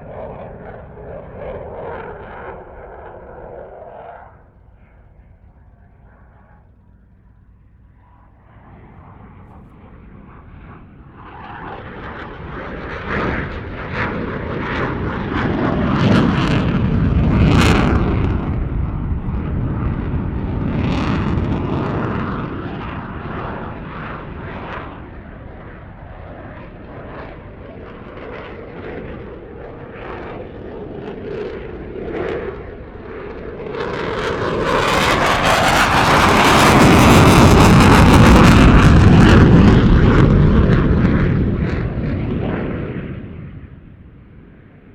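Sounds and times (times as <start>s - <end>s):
aircraft engine passing: 0.0s - 44.9s.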